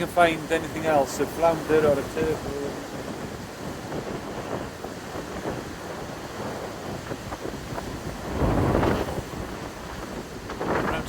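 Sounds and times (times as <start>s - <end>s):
surf breaking: 0.0s - 11.0s
wind on microphone: 0.0s - 11.0s.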